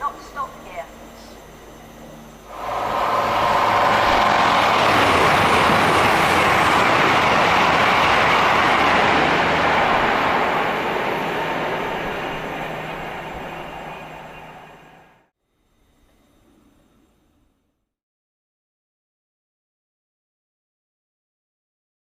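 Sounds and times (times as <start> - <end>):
electric train passing: 0.0 - 17.7
whine of steady tones: 0.0 - 17.8.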